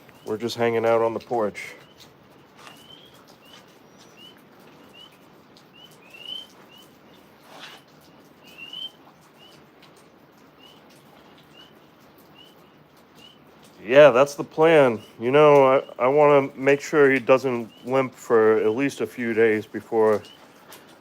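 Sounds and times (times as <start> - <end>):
tree frogs chirping: 0.0 - 20.6
rain hissing: 0.0 - 21.0.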